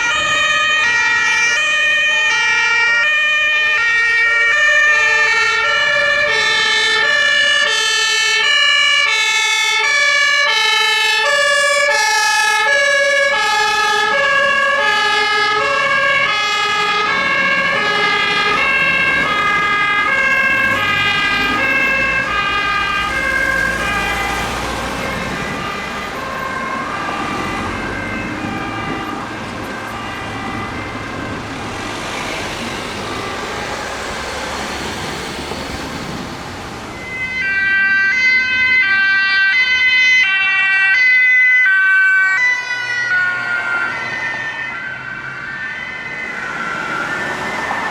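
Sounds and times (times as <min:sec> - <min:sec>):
two-tone emergency siren: 0:00.0 - 0:47.9
vehicles passing: 0:00.0 - 0:47.9.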